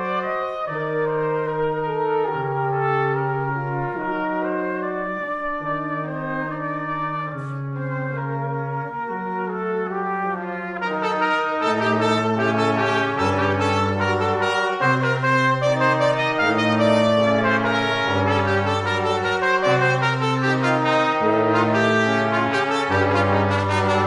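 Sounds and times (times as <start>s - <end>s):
brass quintet playing chords: 0.0s - 24.0s.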